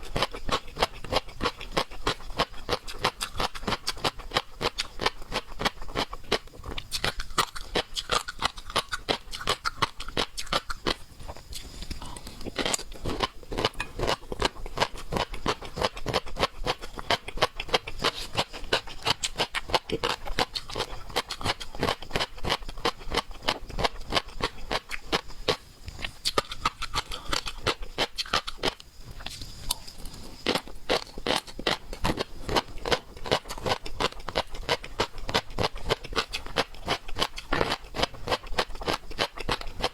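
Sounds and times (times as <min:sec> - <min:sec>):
chewing and wet smacking: 0:00.1 - 0:39.9.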